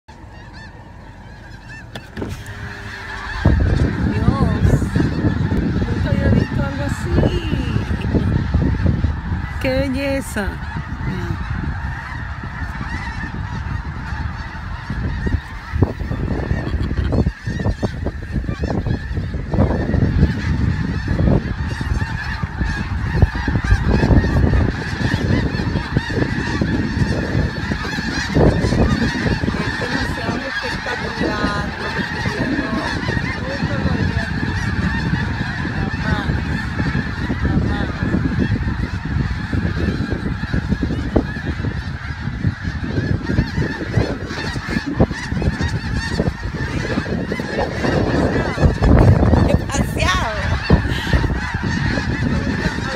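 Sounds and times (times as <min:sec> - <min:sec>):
geese honking: 0:00.1 - 0:52.9.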